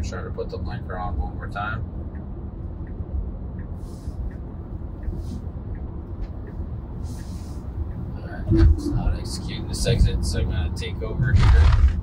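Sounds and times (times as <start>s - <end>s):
turn signal ticking: 0.0s - 11.2s
road and tyre rumble: 0.0s - 12.0s.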